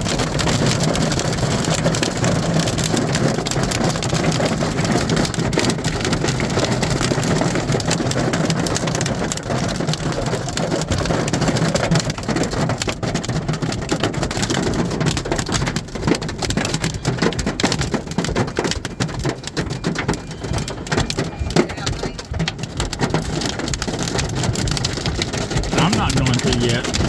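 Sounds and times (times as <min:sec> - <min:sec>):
hail pelting down: 0:00.0 - 0:27.0
heavy rain: 0:00.0 - 0:27.0.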